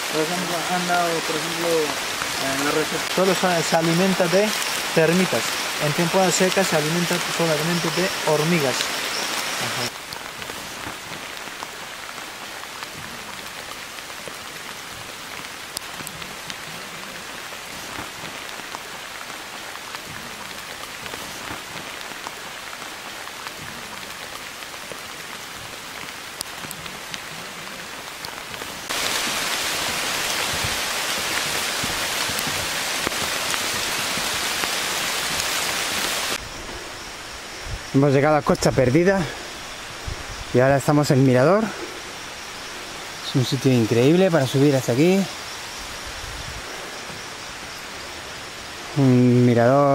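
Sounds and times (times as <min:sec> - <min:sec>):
rain falling on foliage: 0:00.0 - 0:49.9.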